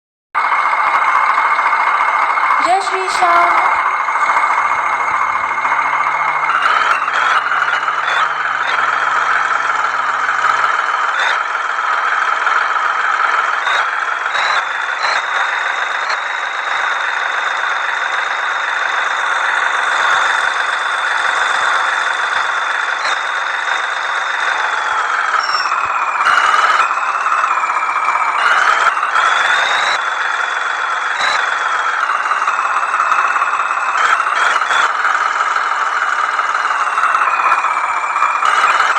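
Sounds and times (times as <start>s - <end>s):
high engine whine: 0.4s - 38.9s
tractor engine running hard: 0.4s - 38.9s.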